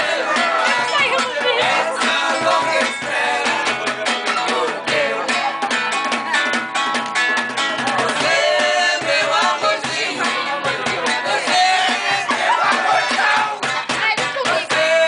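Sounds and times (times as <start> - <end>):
voices singing in unison: 0.0 - 6.2, 7.6 - 15.0
drum beat: 0.0 - 15.0
strummed acoustic guitar: 0.0 - 15.0.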